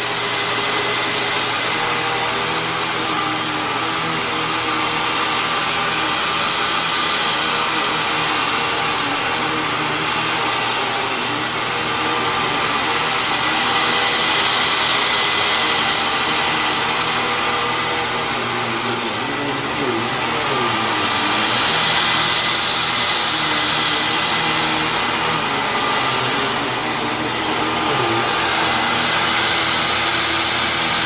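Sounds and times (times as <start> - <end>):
upright vacuum cleaner running: 0.0 - 31.0.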